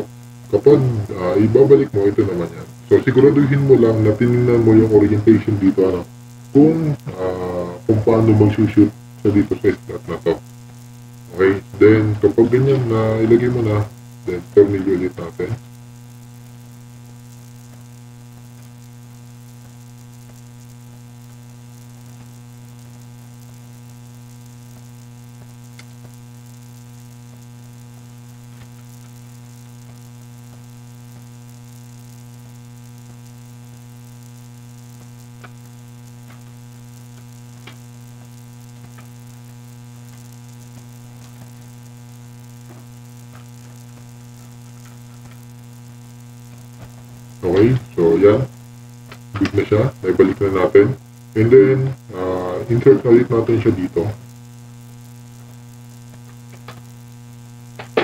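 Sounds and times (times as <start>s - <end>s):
electrical hum: 0.0s - 58.0s
faint hiss: 0.0s - 58.0s.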